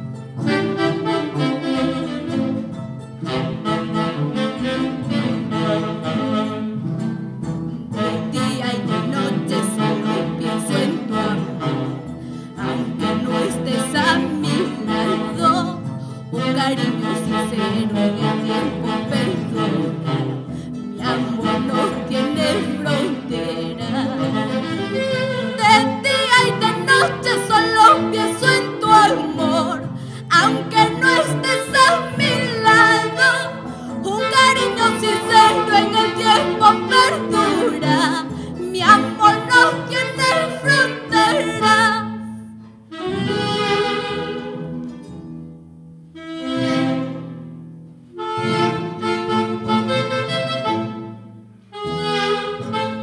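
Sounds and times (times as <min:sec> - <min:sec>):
saxophone: 0:00.0 - 0:45.2, 0:46.1 - 0:53.0
harp: 0:00.0 - 0:53.0.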